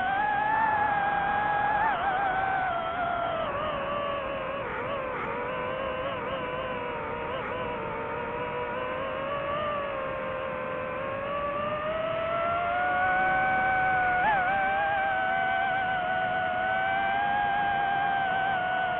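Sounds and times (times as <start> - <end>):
drone propellers whining: 0.0 - 18.9.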